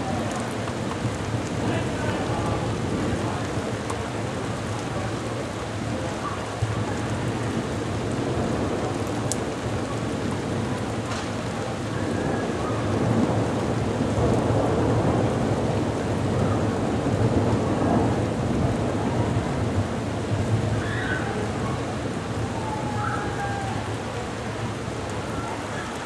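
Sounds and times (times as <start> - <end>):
heavy rain pouring: 0.0 - 26.0
thunder rumbling: 0.0 - 26.0.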